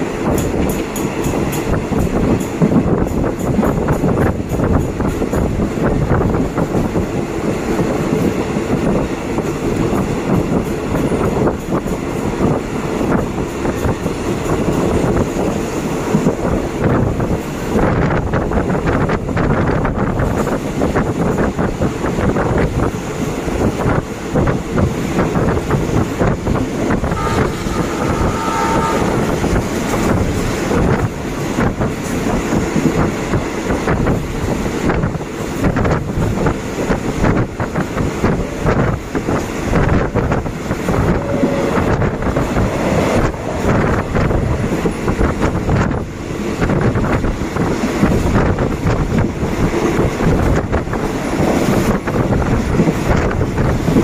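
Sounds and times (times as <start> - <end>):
train wheels rumbling on rails: 0.0 - 54.0
wind buffeting microphone: 0.0 - 54.0.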